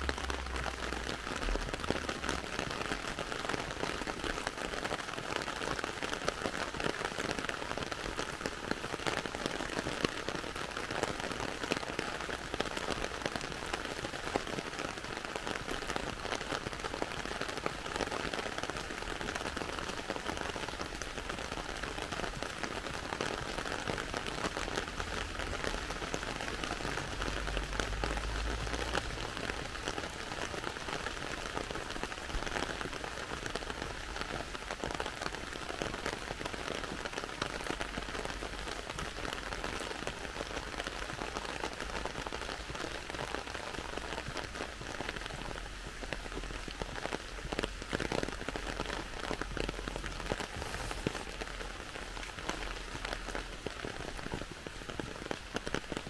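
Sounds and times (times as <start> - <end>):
heavy rain on road: 0.0 - 56.0.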